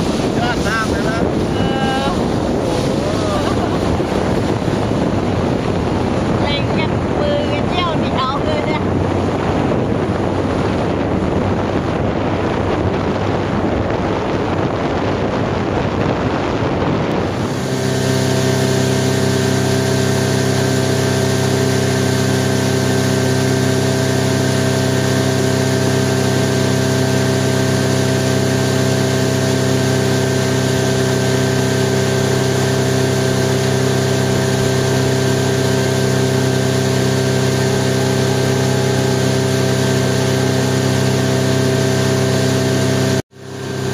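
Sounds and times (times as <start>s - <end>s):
boat engine drone: 0.0s - 43.9s
rushing water: 0.0s - 43.9s
wind buffeting: 0.0s - 43.9s.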